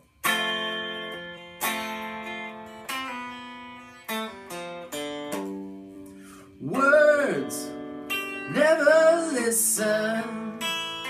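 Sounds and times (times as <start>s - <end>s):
electric guitar chords ringing: 0.0s - 11.0s.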